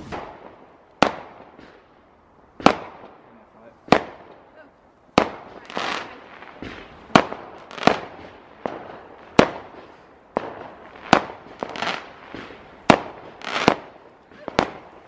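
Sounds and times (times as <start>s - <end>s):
crackling hiss of fireworks: 0.0s - 15.0s
fireworks banging: 0.0s - 15.0s.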